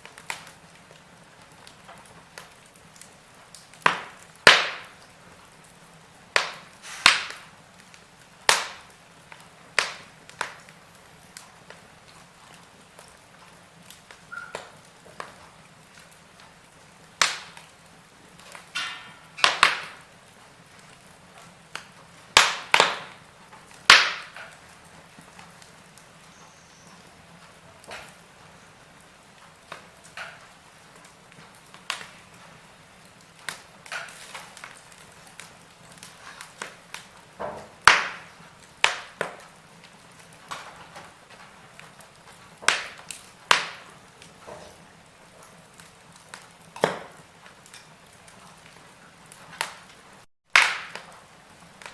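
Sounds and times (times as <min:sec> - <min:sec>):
faint low hiss of burning: 0:00.0 - 0:51.9
fire pops and snaps: 0:00.0 - 0:51.9
wood fire crackling: 0:00.0 - 0:51.9.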